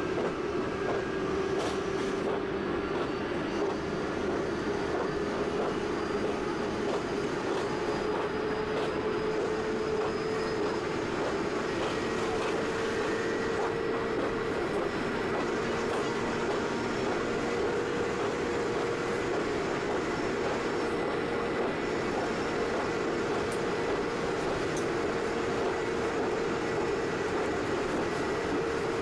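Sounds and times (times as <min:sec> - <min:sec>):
train rumbling inside carriage: 0:00.0 - 0:29.0.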